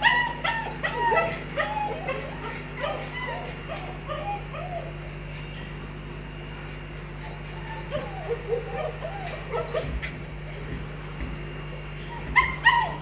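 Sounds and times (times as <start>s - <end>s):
puppies whining and yipping: 0.0s - 5.4s, 6.6s - 10.3s, 11.6s - 13.0s.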